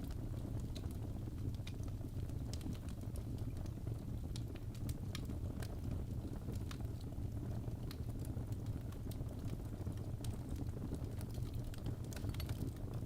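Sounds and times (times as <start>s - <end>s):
fire rumbling: 0.0s - 13.0s
wood crackling and popping: 0.0s - 13.0s.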